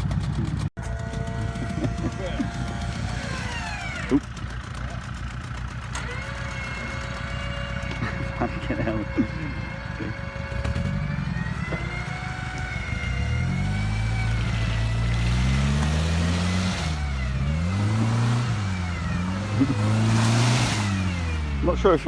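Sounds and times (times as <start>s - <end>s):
off-road engine revving: 0.0s - 22.0s.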